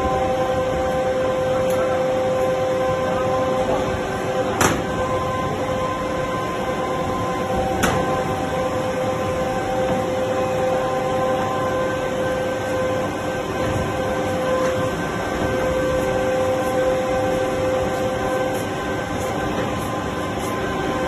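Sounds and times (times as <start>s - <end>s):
machinery hum with held tones: 0.0s - 21.0s.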